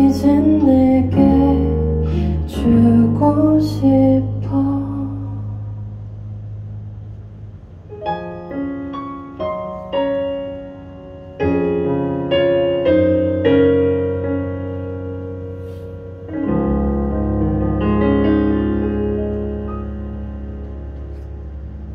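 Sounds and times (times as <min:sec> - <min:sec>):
piano ballad: 0:00.0 - 0:21.9.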